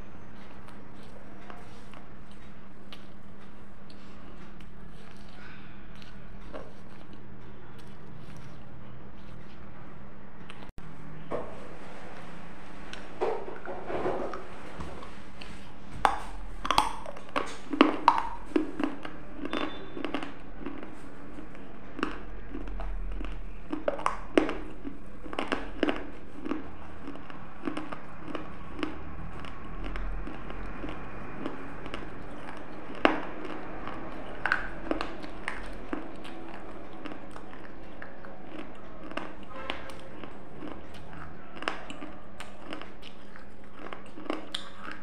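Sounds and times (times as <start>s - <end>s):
crunching and chewing clay: 0.0s - 10.8s, 12.9s - 45.0s.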